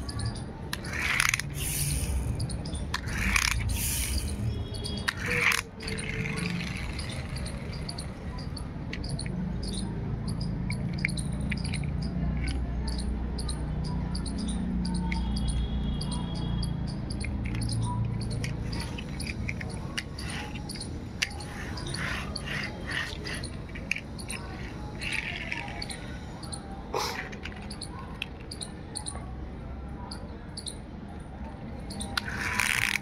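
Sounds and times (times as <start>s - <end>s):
small birds chirping: 0.0s - 26.8s, 27.4s - 29.3s, 30.0s - 33.0s.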